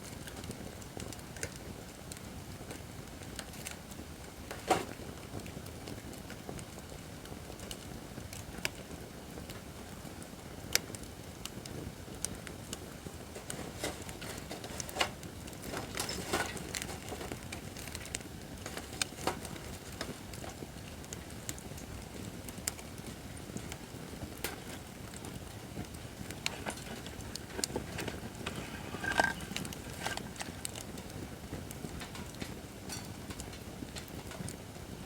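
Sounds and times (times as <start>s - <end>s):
burning wood crackling and popping: 0.0s - 35.0s.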